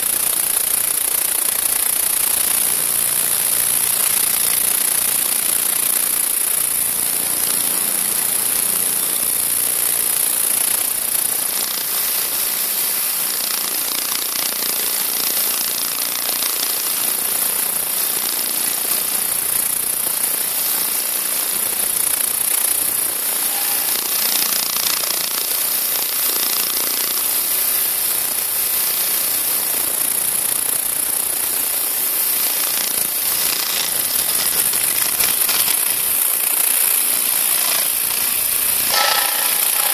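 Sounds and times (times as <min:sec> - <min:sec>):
vibrating sieve machine buzzing: 0:00.0 - 0:39.9.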